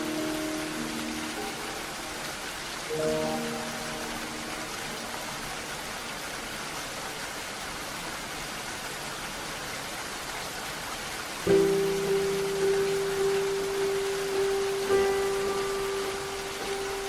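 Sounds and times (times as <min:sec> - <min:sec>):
steady rainfall hiss: 0:00.0 - 0:17.0.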